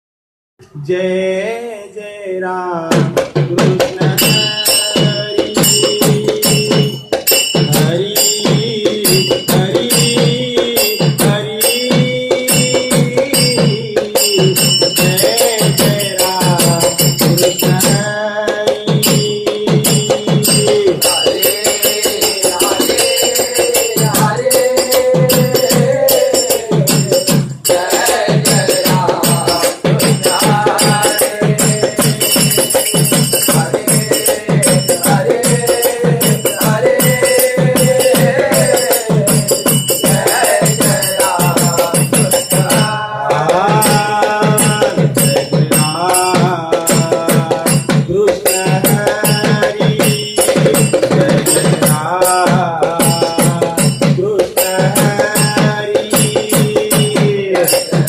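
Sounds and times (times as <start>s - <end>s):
fast drum strokes: 2.8s - 58.0s
jingling metal percussion: 2.9s - 58.0s.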